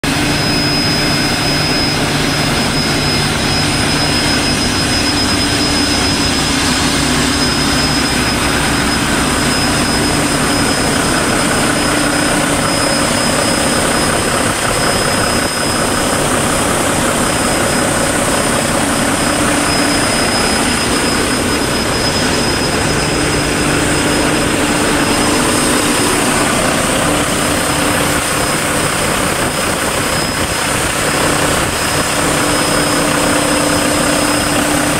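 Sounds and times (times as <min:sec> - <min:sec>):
truck diesel engine idling: 0:00.0 - 0:34.9
thin high whine: 0:00.1 - 0:34.9.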